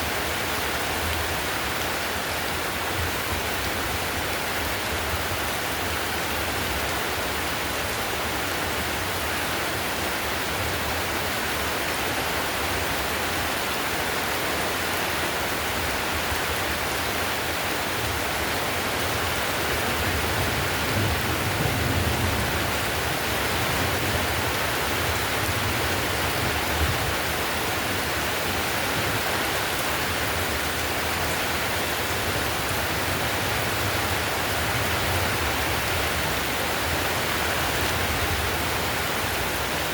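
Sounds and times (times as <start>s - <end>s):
heavy rain on roof tiles: 0.0s - 39.9s.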